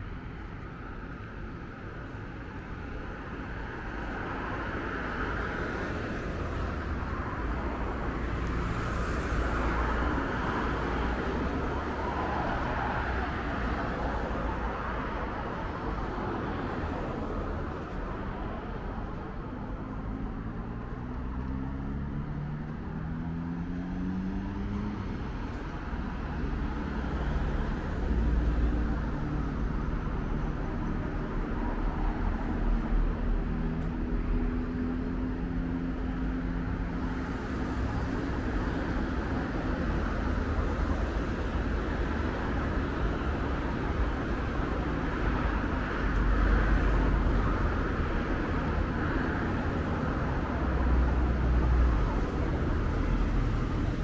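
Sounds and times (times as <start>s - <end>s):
cars passing: 0.0s - 54.0s
low traffic rumble: 0.0s - 54.0s.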